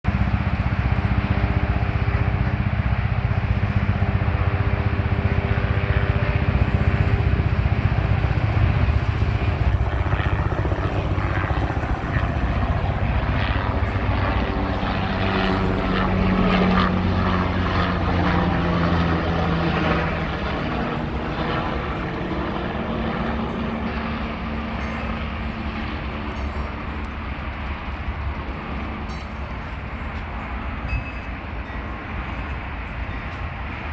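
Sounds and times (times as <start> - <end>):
helicopter rotor chop and engine drone: 0.0 - 33.9.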